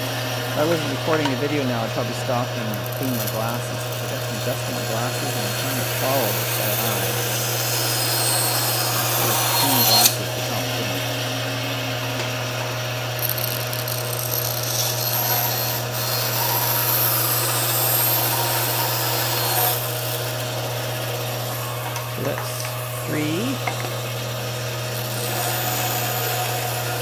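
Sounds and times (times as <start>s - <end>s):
band saw humming: 0.0s - 27.0s.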